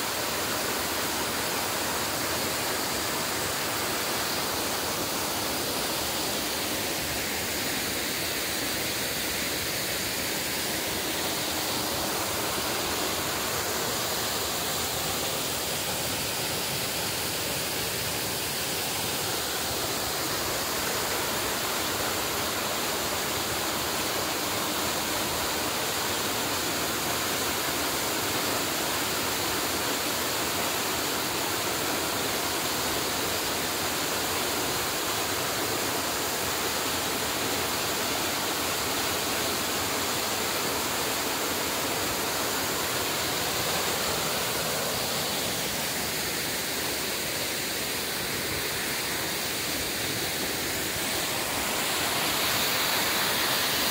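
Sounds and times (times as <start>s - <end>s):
waterfall pouring into pool: 0.0s - 53.9s.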